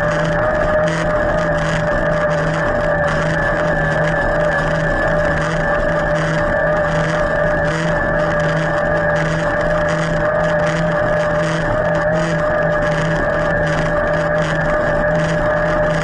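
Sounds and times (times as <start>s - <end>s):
electric bike motor whining: 0.0s - 16.0s
pulsing low hum: 0.0s - 16.0s.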